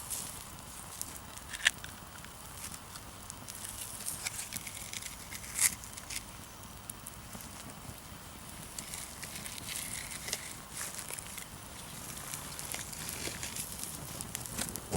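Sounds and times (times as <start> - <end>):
burning matches crackling: 0.0 - 14.9.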